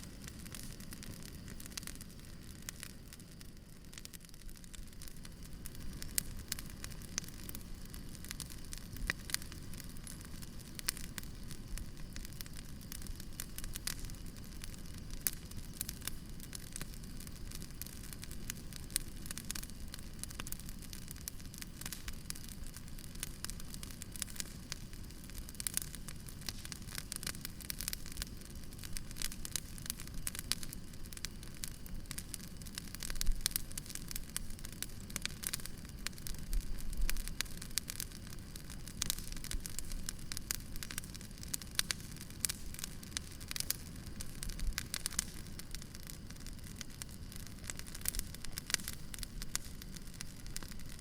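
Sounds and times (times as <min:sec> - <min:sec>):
firewood crackling and popping: 0:00.0 - 0:51.0.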